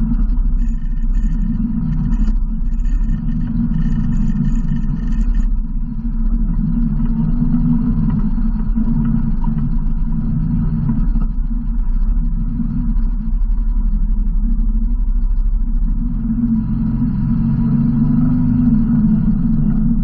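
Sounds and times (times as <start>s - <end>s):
engine rumbling at low throttle: 0.0s - 20.0s.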